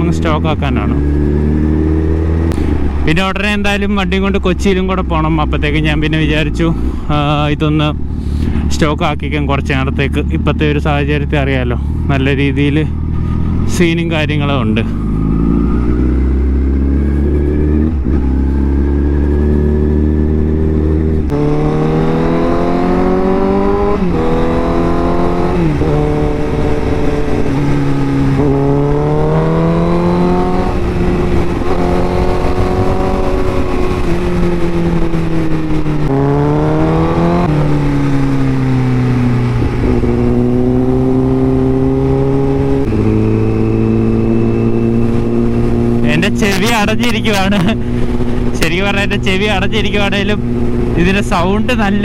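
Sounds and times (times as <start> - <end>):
motorcycle engine revving through gears: 0.0 - 3.1, 11.9 - 52.0.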